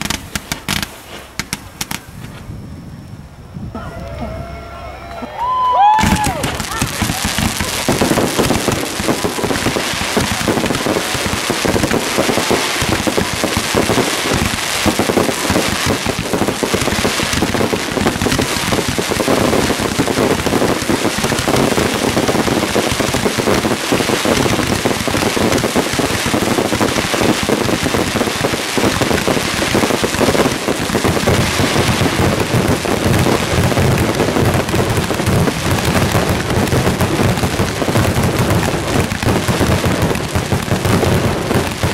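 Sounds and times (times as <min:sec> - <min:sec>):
fireworks barrage: 0:00.0 - 0:02.9, 0:03.6 - 0:41.9.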